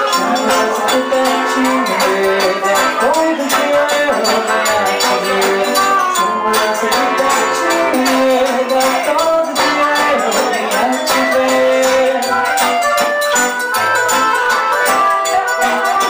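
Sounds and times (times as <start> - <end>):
accordion: 0.0 - 16.0
guitar: 0.0 - 16.0
live band dance music: 0.0 - 16.0.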